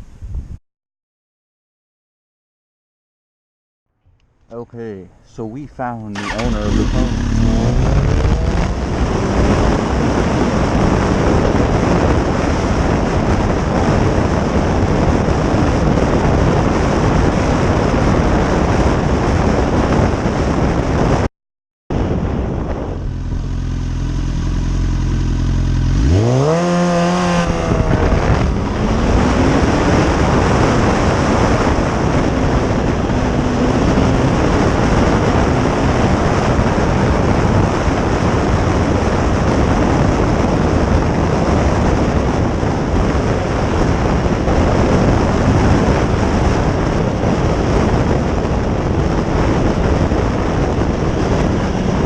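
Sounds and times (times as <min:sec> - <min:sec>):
wind rushing over microphone: 0:00.0 - 0:00.6, 0:04.5 - 0:21.3, 0:21.9 - 0:52.0
motorcycle engine revving: 0:06.0 - 0:18.4, 0:22.5 - 0:52.0.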